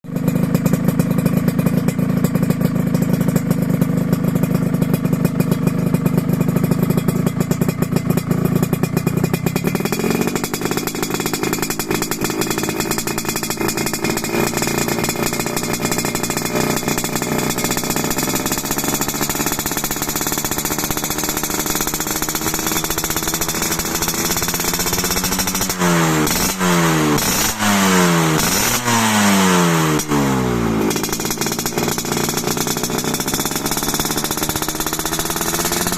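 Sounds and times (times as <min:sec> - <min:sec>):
motorcycle engine revving: 0:00.1 - 0:35.9.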